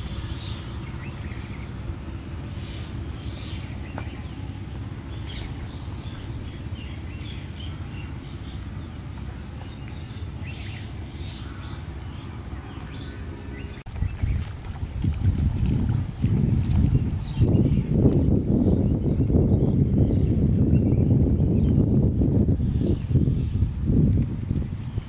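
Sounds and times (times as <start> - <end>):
birds chirping: 0.0 - 23.7
steady low rumble: 0.0 - 25.0.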